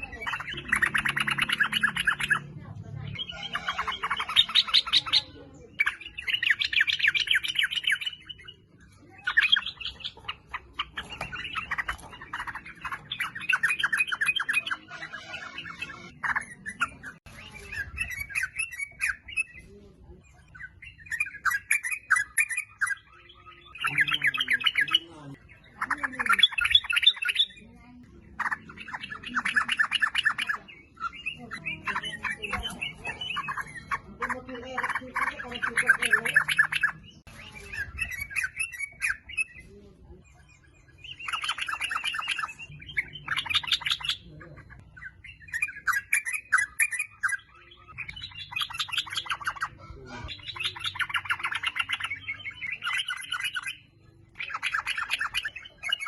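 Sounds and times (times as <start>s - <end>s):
bird rapid chattering calls: 0.0s - 19.7s, 20.4s - 39.7s, 40.4s - 56.0s.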